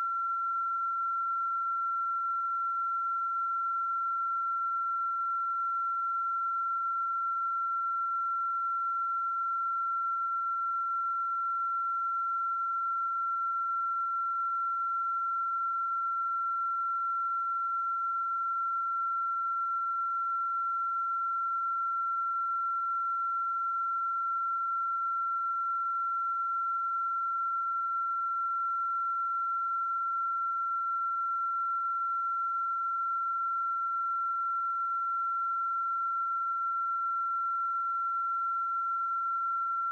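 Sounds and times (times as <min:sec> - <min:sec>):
electronic pure tone beep: 0:00.0 - 0:39.9.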